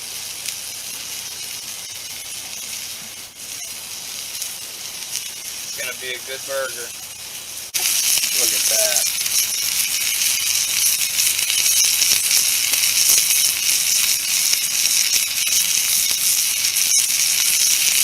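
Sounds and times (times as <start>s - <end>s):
burger sizzling in frying pan: 0.0s - 18.0s.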